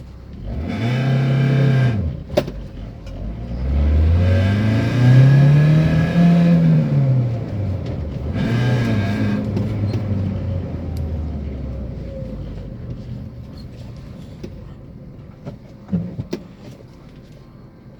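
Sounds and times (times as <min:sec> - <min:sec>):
van engine revving: 0:00.0 - 0:16.7.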